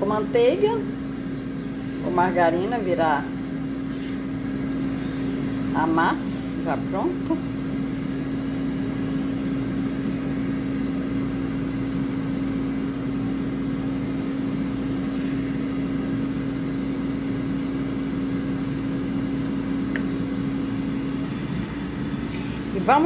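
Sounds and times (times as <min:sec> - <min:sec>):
air fryer fan hum: 0:00.0 - 0:23.0.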